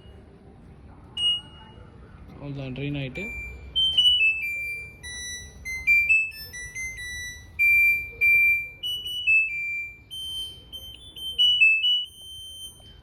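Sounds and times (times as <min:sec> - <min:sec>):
electronic beeping melody: 0:01.2 - 0:01.8, 0:03.1 - 0:13.0.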